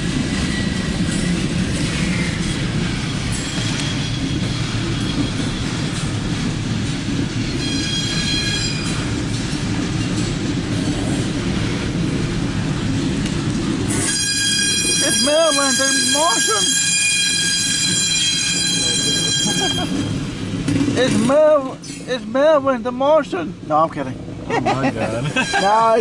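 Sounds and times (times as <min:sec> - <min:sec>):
wheels squealing on rail: 0:00.0 - 0:22.1, 0:25.2 - 0:26.0
train cars rolling on steel wheels: 0:00.0 - 0:26.0.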